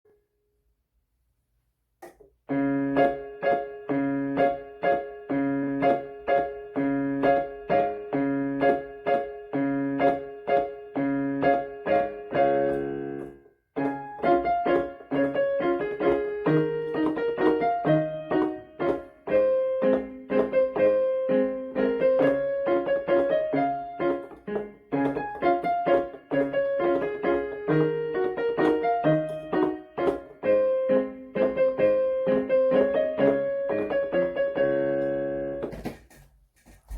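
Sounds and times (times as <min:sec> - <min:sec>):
solo piano playing: 0:02.5 - 0:35.7.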